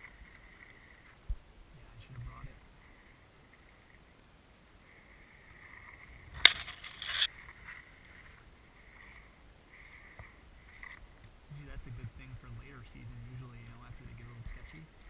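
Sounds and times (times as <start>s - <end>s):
quiet outdoor ambience: 0.0s - 15.0s.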